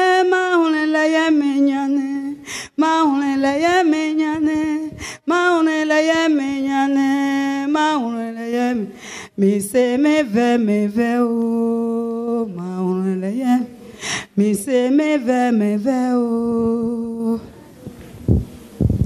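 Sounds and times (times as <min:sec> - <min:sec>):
person singing unaccompanied: 0:00.0 - 0:17.8.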